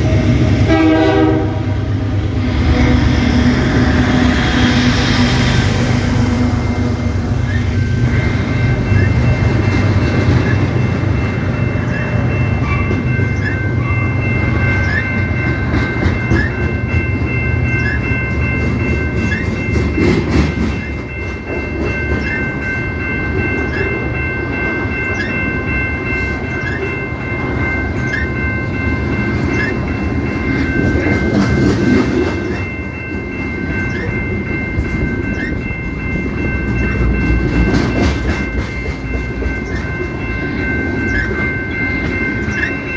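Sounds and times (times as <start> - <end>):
high-pitched ringing tones: 0.0 - 42.9
train rumbling past: 0.0 - 42.9
wheels clacking over rails: 2.5 - 25.4, 26.3 - 42.9.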